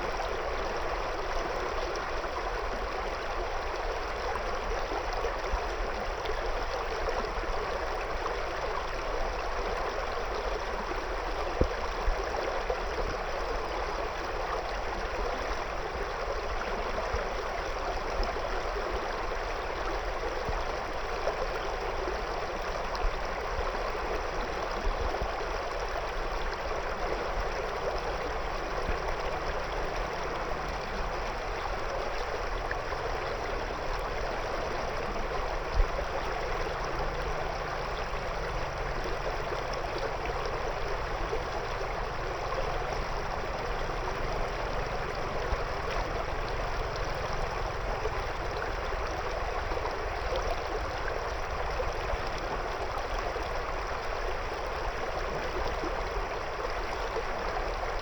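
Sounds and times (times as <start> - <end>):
shallow river flowing over stones: 0.0 - 58.0.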